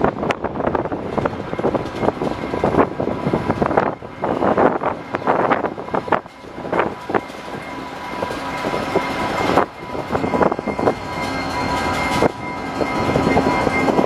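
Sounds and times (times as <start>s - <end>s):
diesel locomotive engine: 0.0s - 14.0s
train rail noise: 0.0s - 14.0s.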